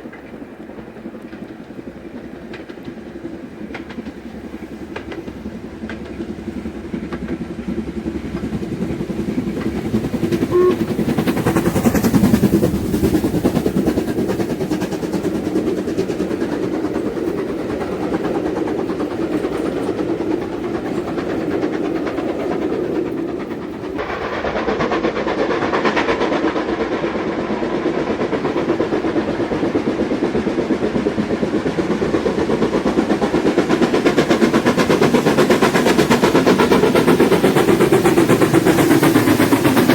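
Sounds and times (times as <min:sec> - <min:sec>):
carriages clattering over rail joints: 0:00.0 - 0:39.9
steam locomotive working: 0:00.0 - 0:39.9.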